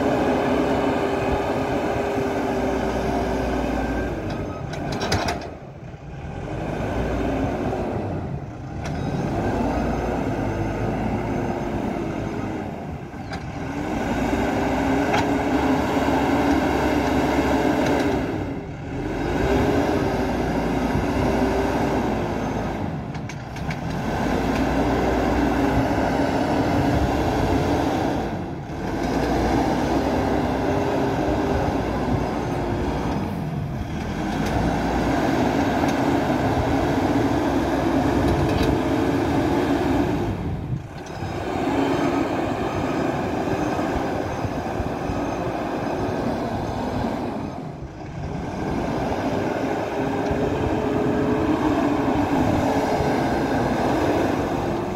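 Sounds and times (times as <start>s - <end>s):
backhoe diesel engine working: 0.0s - 54.9s.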